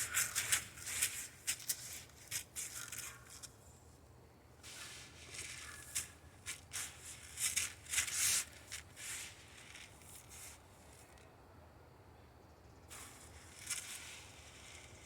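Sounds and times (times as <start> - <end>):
dry seeds rustling: 0.0 - 3.6, 4.7 - 11.2, 12.9 - 15.0.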